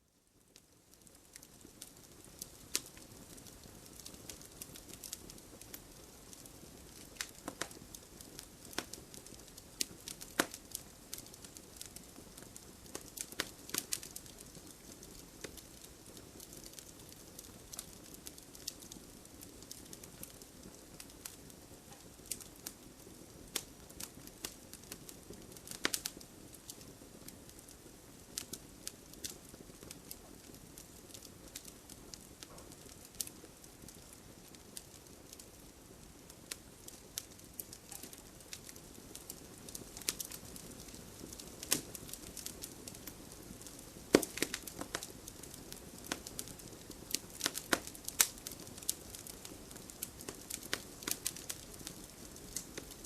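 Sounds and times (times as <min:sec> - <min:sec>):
wood fire crackling and popping: 0:00.3 - 0:53.0.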